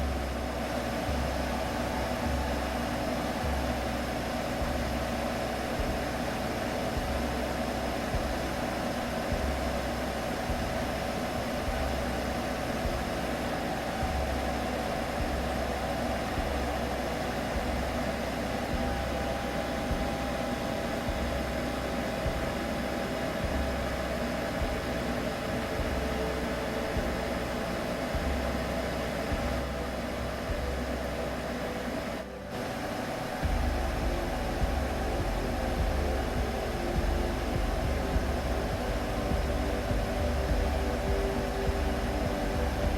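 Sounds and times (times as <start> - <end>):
soothing hum: 0.0 - 42.9
white noise hiss: 0.0 - 42.9.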